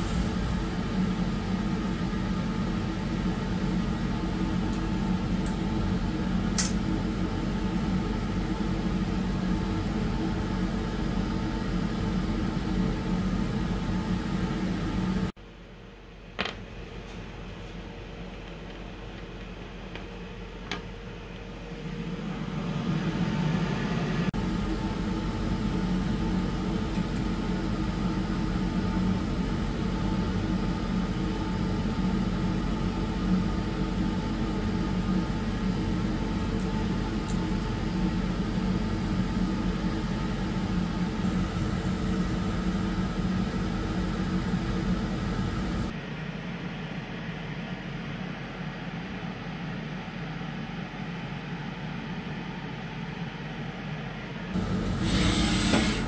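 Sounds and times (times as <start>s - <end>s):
machine hum with steady tones: 0.0s - 56.0s.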